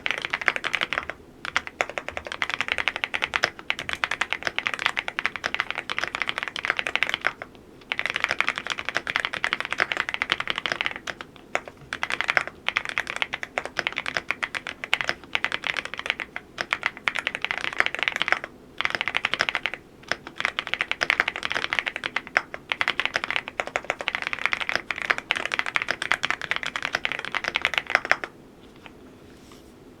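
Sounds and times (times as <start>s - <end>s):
typing on mechanical keyboard: 0.0s - 28.3s.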